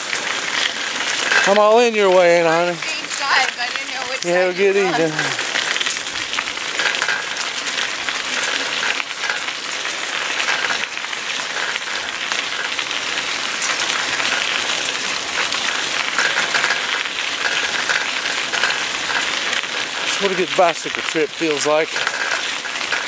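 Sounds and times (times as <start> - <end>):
bicycle tyres crunching on gravel: 0.0 - 23.0.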